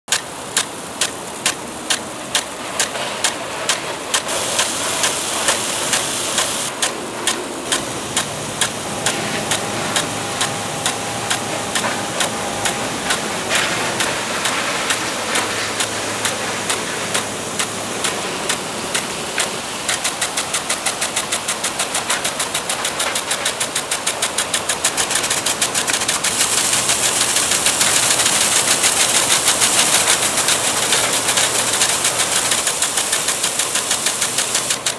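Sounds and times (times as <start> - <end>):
impact sprinkler ticking: 0.1 - 34.9
water spray hissing: 0.1 - 34.9.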